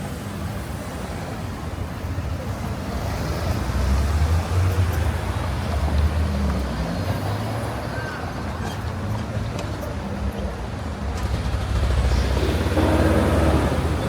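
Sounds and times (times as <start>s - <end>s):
city street traffic: 0.0s - 14.0s
passing vehicle engine rumble: 2.4s - 14.0s.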